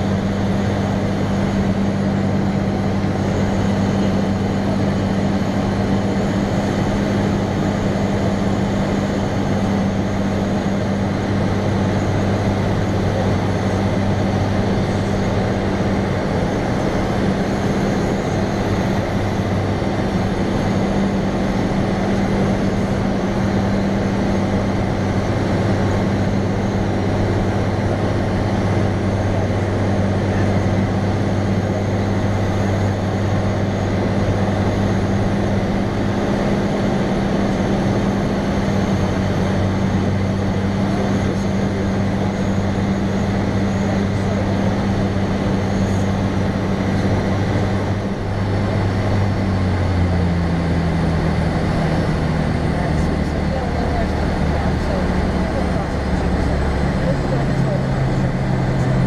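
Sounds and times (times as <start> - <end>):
light airplane engine droning: 0.0 - 59.0.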